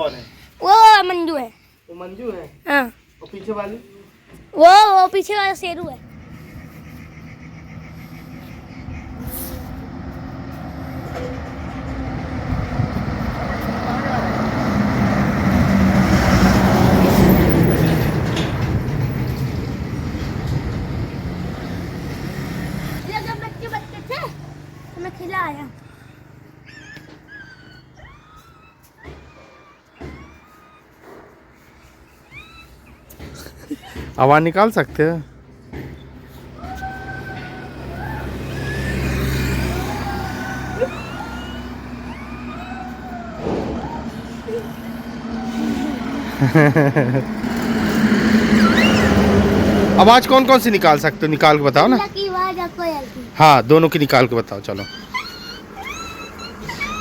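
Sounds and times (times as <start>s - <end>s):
motor vehicle passing: 0.0s - 57.0s.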